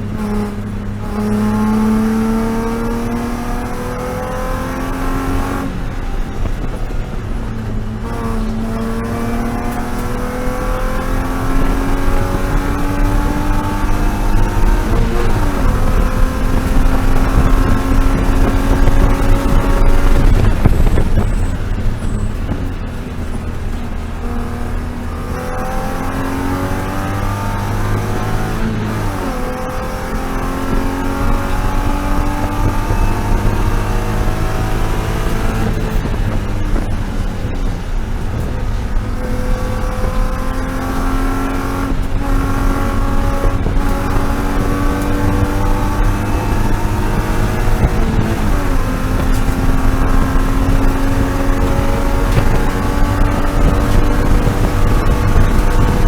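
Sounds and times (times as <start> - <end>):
race car engine revving through gears: 0.0 - 56.0.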